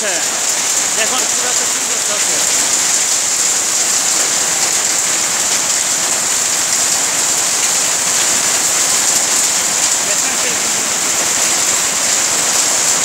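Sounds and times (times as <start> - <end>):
rain splashing into puddles: 0.0 - 13.0.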